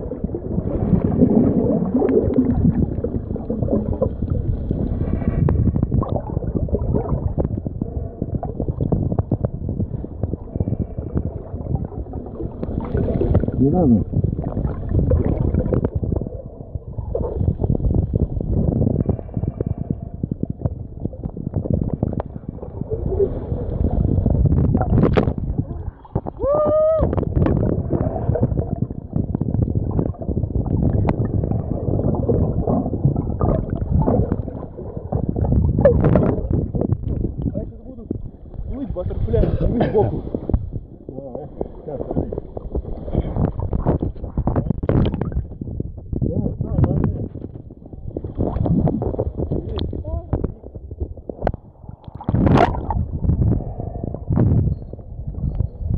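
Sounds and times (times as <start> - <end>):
underwater clicks and crackles: 0.0 - 55.9
underwater gurgling and bubbling: 0.0 - 55.9.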